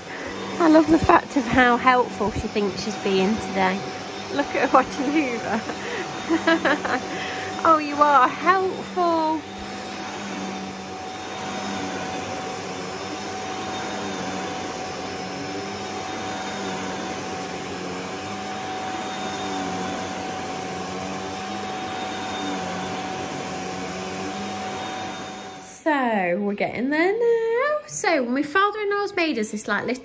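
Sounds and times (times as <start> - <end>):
vacuum cleaner running on carpet: 0.0 - 26.2.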